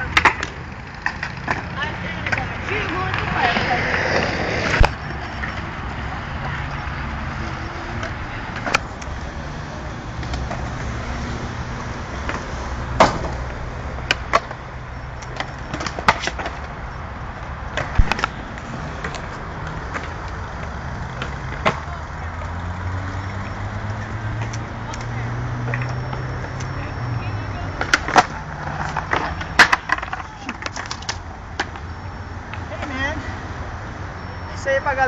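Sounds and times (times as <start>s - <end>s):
skateboards clacking on ground: 0.0s - 11.4s, 12.1s - 33.3s
skateboard wheels rolling on concrete: 0.0s - 35.0s.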